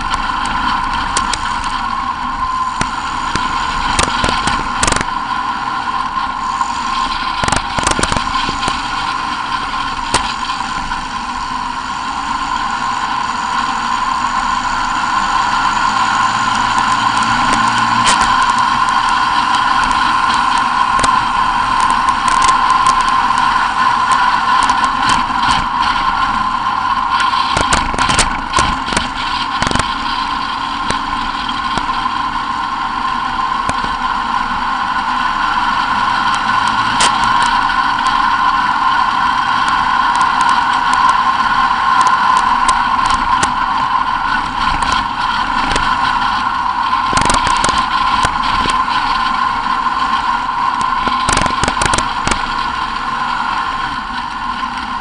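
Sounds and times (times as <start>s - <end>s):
race engine high-pitched drone: 0.0s - 55.0s.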